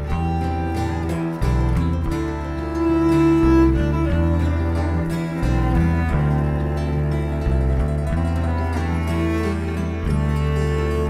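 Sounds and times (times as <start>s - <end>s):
string music with cello melody: 0.0s - 11.0s.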